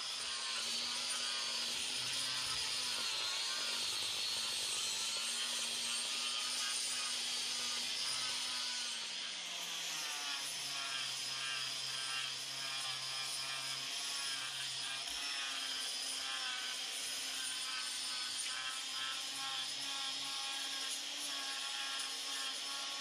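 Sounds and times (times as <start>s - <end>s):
power sander on wood: 0.0s - 23.0s.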